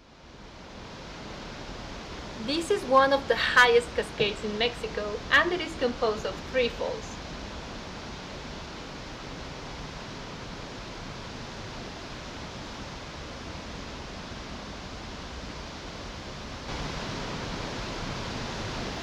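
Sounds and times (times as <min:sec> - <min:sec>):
waterfall rushing: 0:00.6 - 0:19.0.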